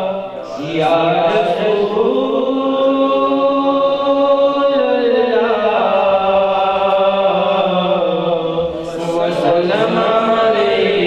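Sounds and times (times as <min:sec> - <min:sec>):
man singing into a microphone: 0:00.0 - 0:11.0.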